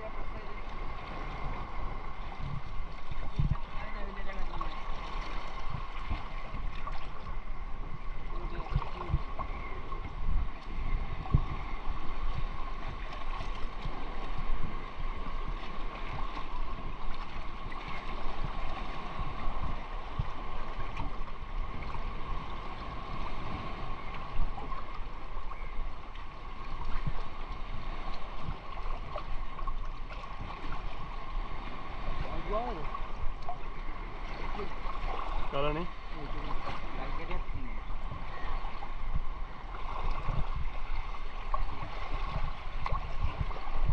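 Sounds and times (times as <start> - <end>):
seawater sloshing and splashing: 0.0 - 43.9.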